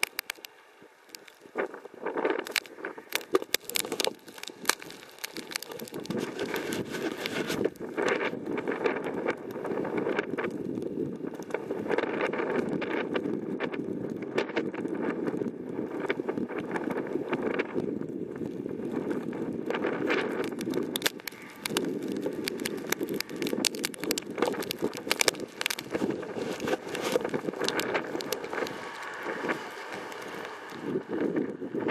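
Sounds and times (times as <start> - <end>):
gusting storm wind: 0.0 - 31.9
sharp ticks and crackles: 0.0 - 31.9.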